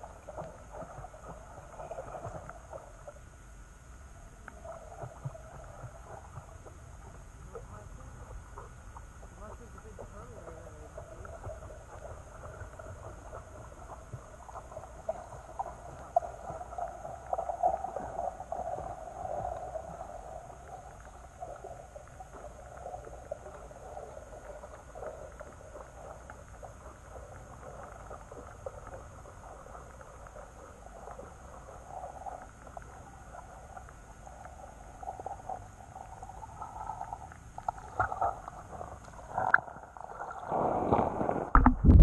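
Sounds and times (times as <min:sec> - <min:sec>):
small ticks and crackles: 0:00.0 - 0:40.4
underwater river current rumble: 0:00.0 - 0:42.0.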